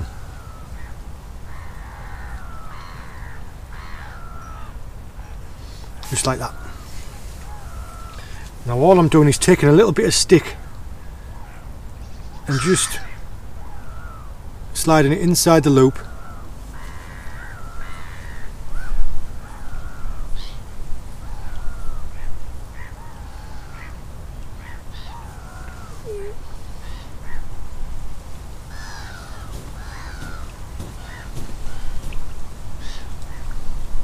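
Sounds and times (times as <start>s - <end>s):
crows cawing: 0.0s - 8.7s, 12.5s - 14.9s, 15.7s - 33.6s.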